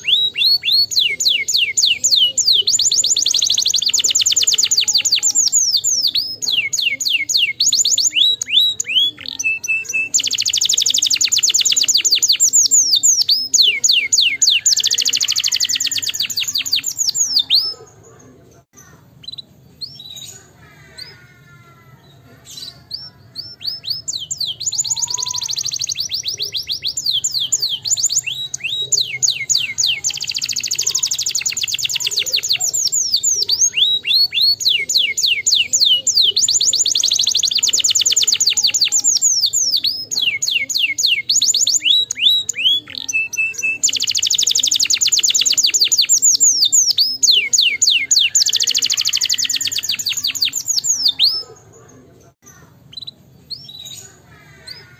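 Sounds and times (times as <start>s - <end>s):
canary trilling: 0.0s - 54.9s.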